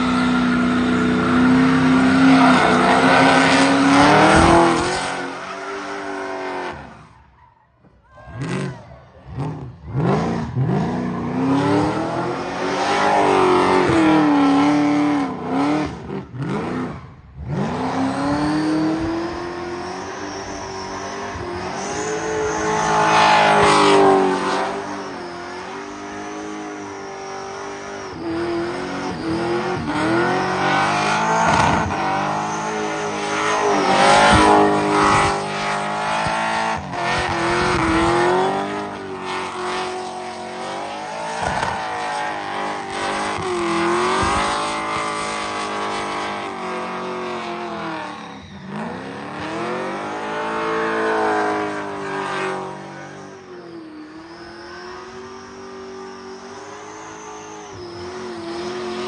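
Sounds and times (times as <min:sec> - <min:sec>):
car engine revving hard: 0:00.0 - 0:07.0, 0:08.4 - 0:59.0.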